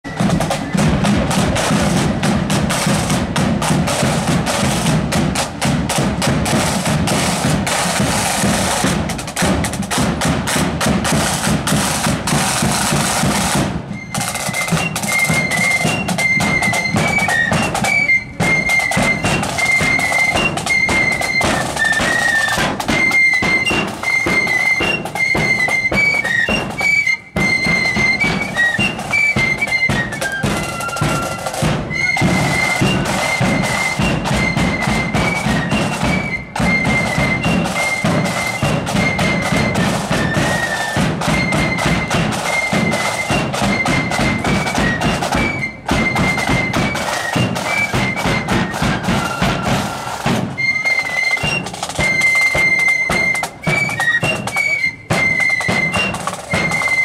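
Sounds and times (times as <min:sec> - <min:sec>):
high flutes playing a tune: 0:00.0 - 0:57.0
side drums rolling beat: 0:00.0 - 0:57.0.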